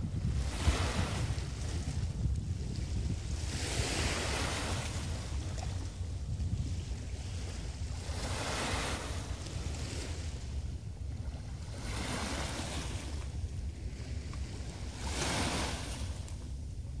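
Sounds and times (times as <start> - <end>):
small waves breaking: 0.0 - 17.0
wind rumble on microphone: 0.0 - 17.0.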